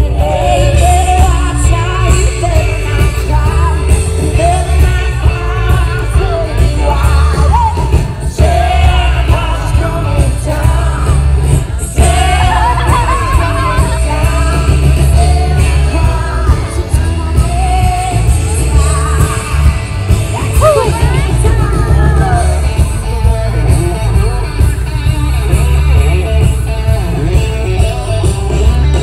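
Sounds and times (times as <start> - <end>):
person singing: 0.0 - 24.4
live band playing: 0.0 - 29.0.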